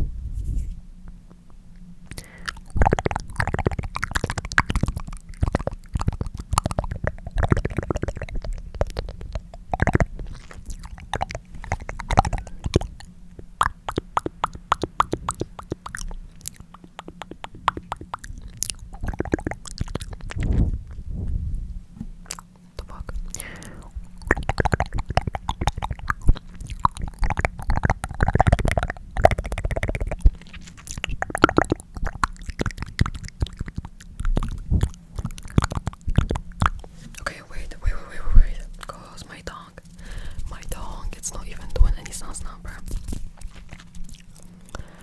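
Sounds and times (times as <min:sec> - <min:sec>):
wet tongue clicks: 0:02.1 - 0:21.0, 0:22.2 - 0:45.0.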